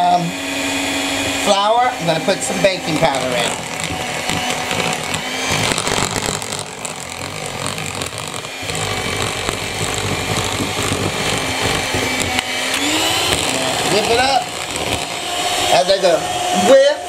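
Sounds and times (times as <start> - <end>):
electric hand mixer whisking batter: 0.0 - 17.0.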